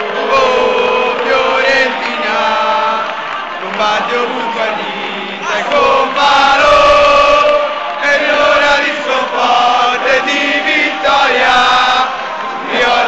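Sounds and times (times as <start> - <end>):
stadium crowd singing: 0.0 - 13.0.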